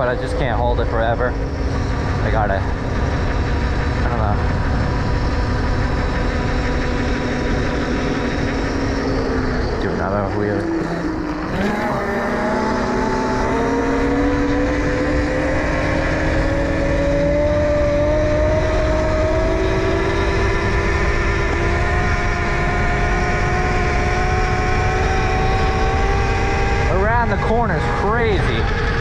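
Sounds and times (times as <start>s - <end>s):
electric motor whining: 0.0s - 29.0s
steady low rush: 0.0s - 29.0s.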